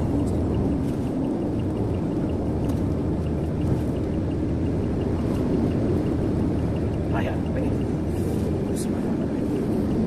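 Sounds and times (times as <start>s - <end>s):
engine and tyre rumble: 0.0s - 10.0s
faint regular ticking: 0.0s - 10.0s.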